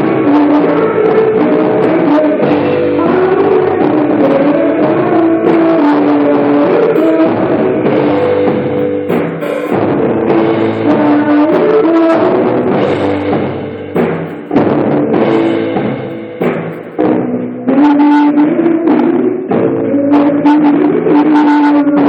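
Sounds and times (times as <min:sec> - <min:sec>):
drum kit playing: 0:00.0 - 0:22.0
live rock band music: 0:00.0 - 0:22.0.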